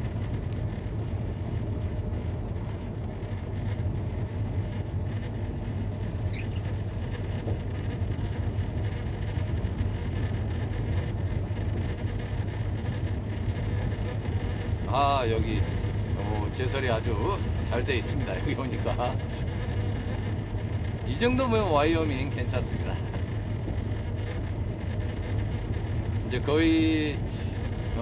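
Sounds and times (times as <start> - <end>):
truck engine and road drone: 0.0 - 28.0.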